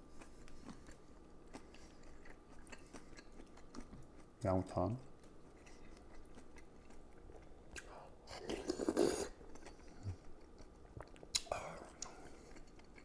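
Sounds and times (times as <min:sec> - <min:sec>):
person chewing: 0:00.1 - 0:04.4, 0:05.0 - 0:13.0.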